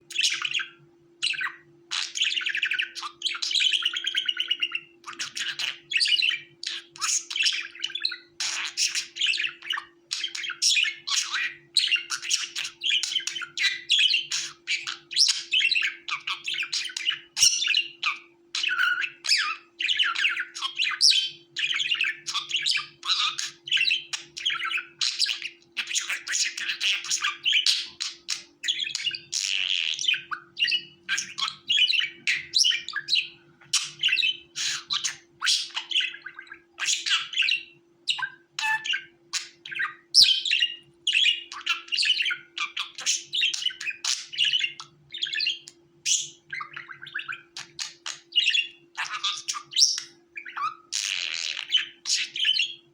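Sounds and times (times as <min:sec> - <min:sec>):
budgerigars chirping: 0:00.0 - 0:52.9
faint steady hum: 0:00.0 - 0:52.9.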